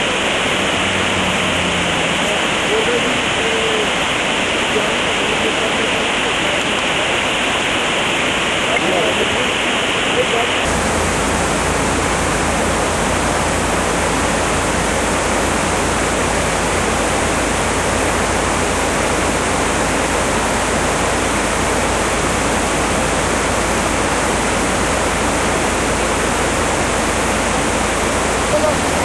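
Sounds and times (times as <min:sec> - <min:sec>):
river water rushing loudly: 0:00.0 - 0:29.0.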